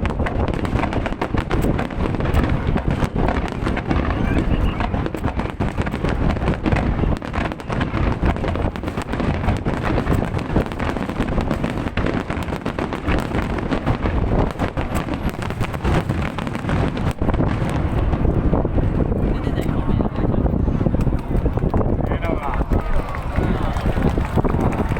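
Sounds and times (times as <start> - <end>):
fireworks popping and crackling: 0.0 - 24.9
wind buffeting microphone: 0.0 - 24.9.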